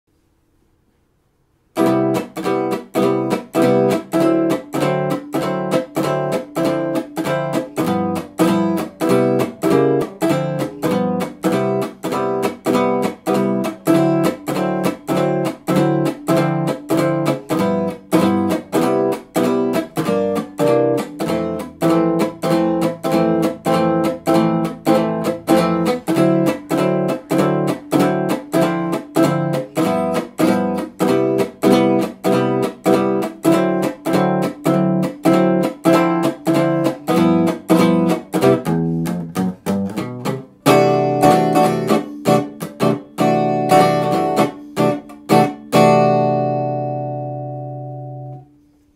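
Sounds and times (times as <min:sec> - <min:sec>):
electric guitar strumming chords: 0:01.8 - 0:48.5.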